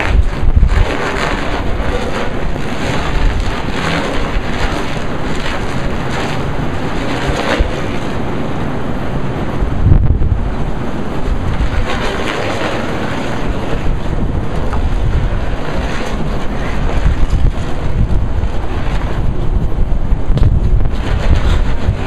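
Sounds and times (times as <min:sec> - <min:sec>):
gusty wind buffeting microphone: 0:00.0 - 0:22.0.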